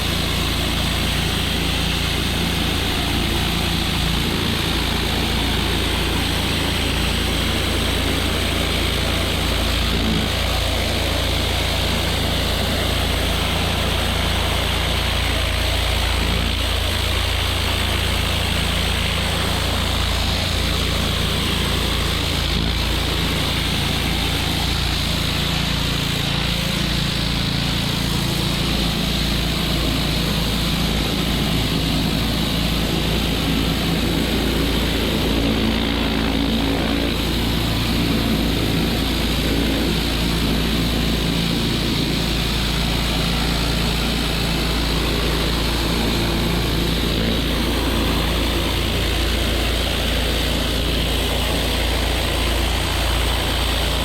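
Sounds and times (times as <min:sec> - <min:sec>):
pressure washer engine running: 0:00.0 - 0:54.0.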